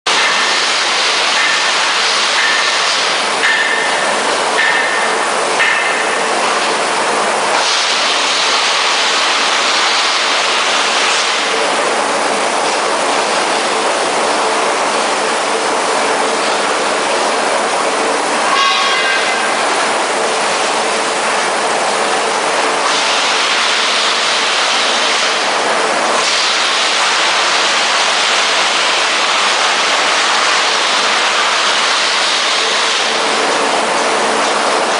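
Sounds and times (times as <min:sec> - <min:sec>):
wood chipper machinery running: 0:00.1 - 0:34.9.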